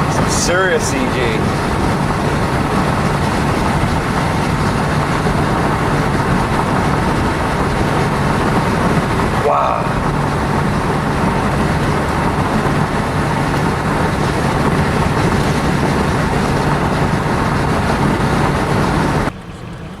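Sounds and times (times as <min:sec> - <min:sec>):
wind on microphone: 0:00.0 - 0:19.3
low hum: 0:00.0 - 0:20.0.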